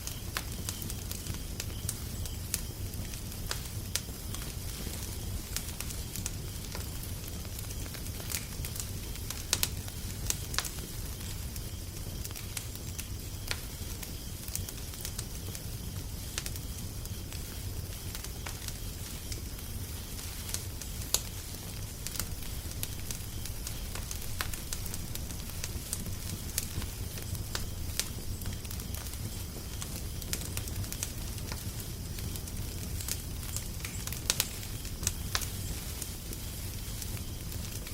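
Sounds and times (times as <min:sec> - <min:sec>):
fire crackling and popping: 0:00.0 - 0:37.9.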